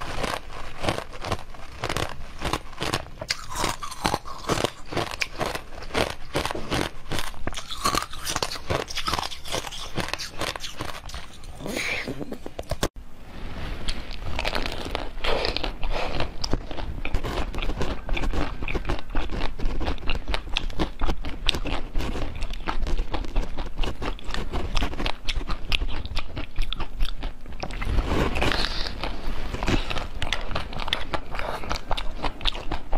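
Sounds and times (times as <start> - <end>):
crunchy chewing: 0.0 - 12.9, 13.9 - 32.9.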